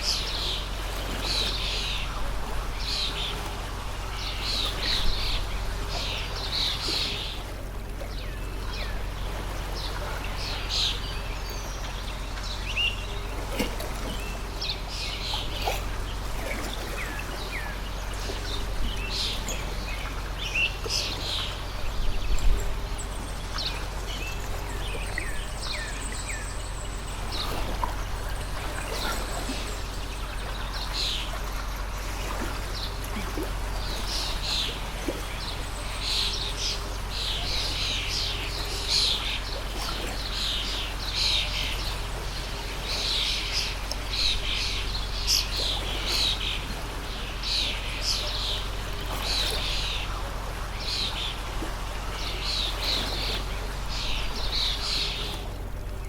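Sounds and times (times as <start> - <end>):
small birds chirping: 0.0 - 56.0
stream flowing: 0.0 - 56.0.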